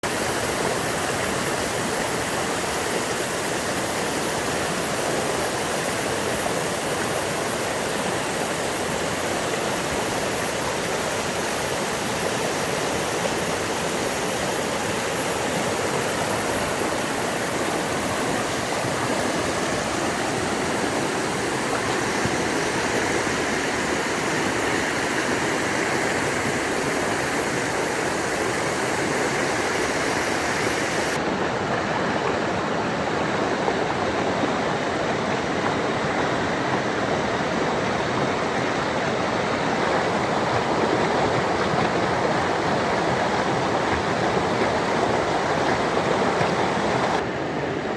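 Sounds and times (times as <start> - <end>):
fast-flowing stream rushing: 0.0 - 47.9.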